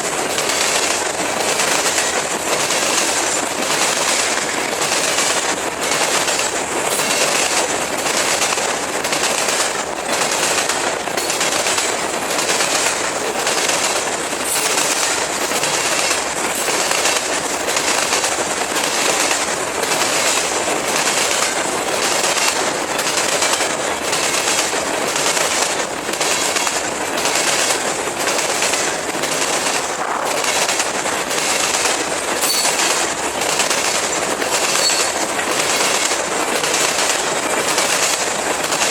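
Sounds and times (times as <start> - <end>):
train rumble: 0.0 - 38.9
train wheels clacking on track: 0.0 - 38.9.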